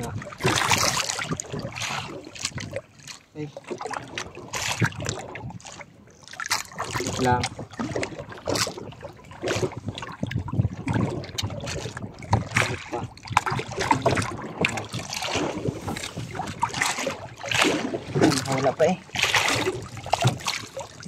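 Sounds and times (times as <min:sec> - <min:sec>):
wind on microphone: 0:00.0 - 0:02.9, 0:03.9 - 0:05.8, 0:06.7 - 0:21.0
water splashing against boat: 0:00.0 - 0:21.0.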